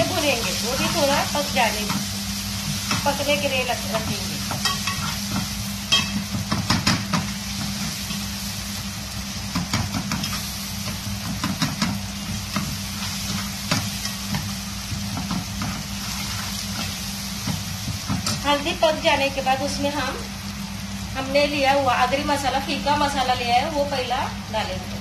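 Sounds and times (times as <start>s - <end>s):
masala sizzling in oil: 0.0s - 25.0s.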